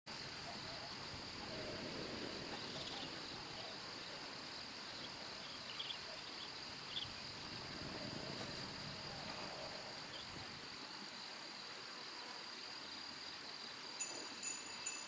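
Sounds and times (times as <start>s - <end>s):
high-pitched insect chorus: 0.1s - 15.0s.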